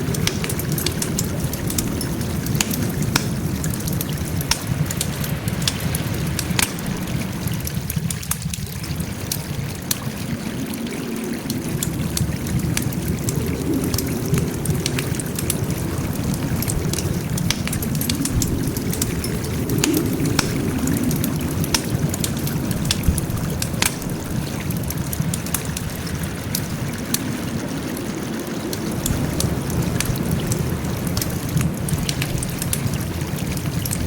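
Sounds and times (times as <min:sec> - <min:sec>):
low rumble of flames: 0:00.0 - 0:34.0
wood fire crackling and popping: 0:00.0 - 0:34.0.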